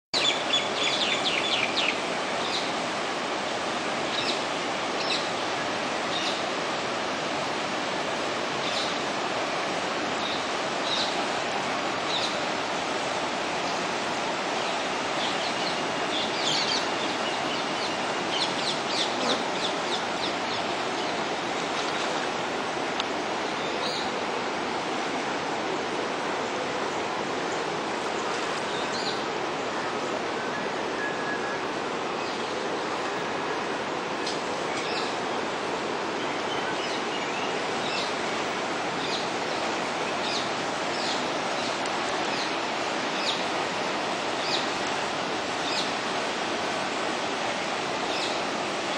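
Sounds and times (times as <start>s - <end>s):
river water rushing: 0.2s - 48.9s.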